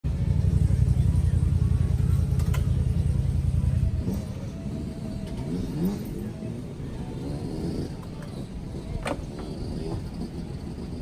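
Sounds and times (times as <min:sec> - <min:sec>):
engine low rumble: 0:00.0 - 0:11.0
faint engine note: 0:00.1 - 0:10.5.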